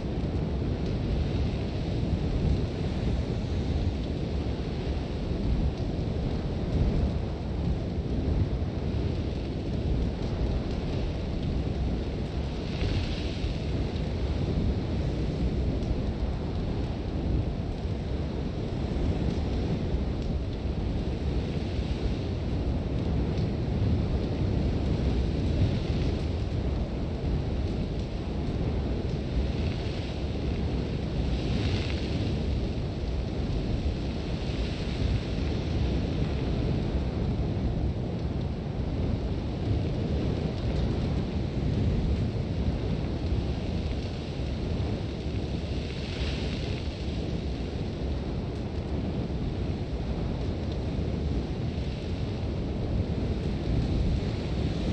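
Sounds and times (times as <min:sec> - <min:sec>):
wind with deep rumble: 0:00.0 - 0:54.9.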